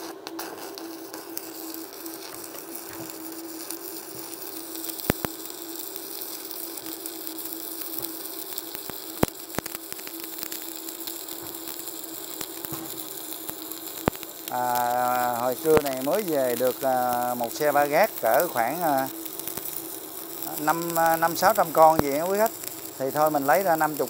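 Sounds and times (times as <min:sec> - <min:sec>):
sharp welding pops: 0:00.0 - 0:24.0
welder hum: 0:00.0 - 0:24.0
welding frying crackle: 0:00.0 - 0:24.0.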